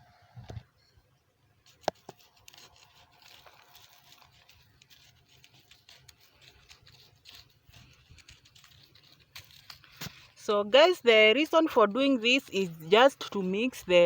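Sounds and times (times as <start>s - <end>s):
soil scraping and crumbling: 1.6s - 14.0s.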